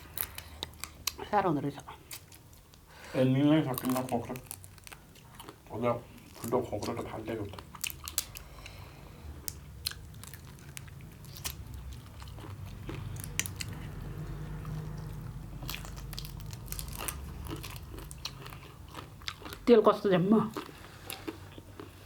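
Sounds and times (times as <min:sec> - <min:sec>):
chewing crab with shell crunches: 0:00.0 - 0:01.2, 0:03.7 - 0:19.7, 0:20.5 - 0:22.0.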